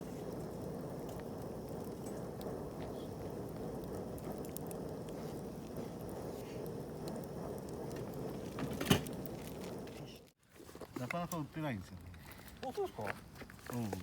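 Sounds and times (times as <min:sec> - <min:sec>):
campfire hissing and crackling: 0:00.0 - 0:14.0.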